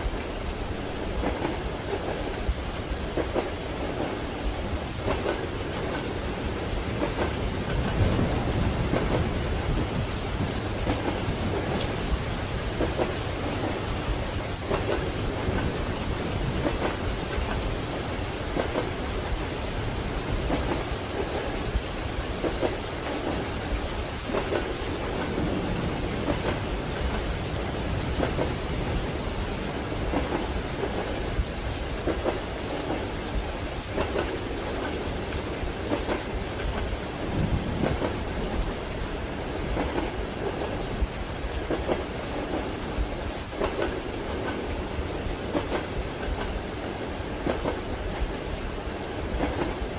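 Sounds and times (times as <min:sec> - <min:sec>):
rain pattering on window: 0:00.0 - 0:49.9
train rumbling: 0:00.0 - 0:49.9.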